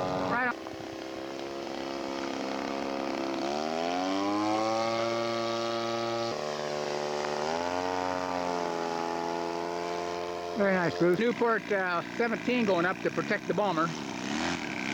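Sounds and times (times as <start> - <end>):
model airplane engine buzzing: 0.0 - 14.9.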